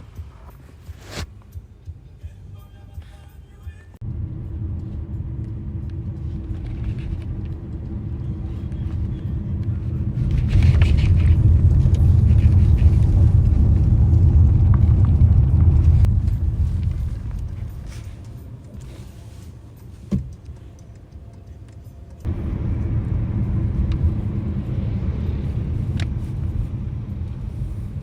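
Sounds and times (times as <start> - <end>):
moving vehicle rumble: 0.0 - 28.0.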